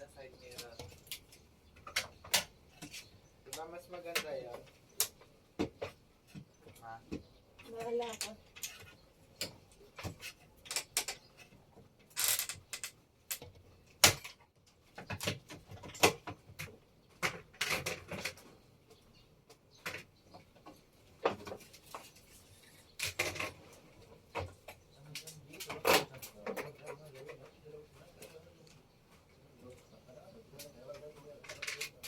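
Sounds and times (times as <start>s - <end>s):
objects being handled: 0.3s - 32.0s.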